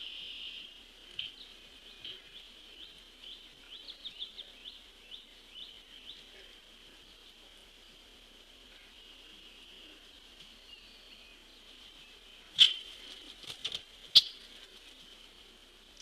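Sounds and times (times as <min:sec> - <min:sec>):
faint high-pitched drone: 0:00.0 - 0:13.4
birds chirping: 0:00.0 - 0:16.0.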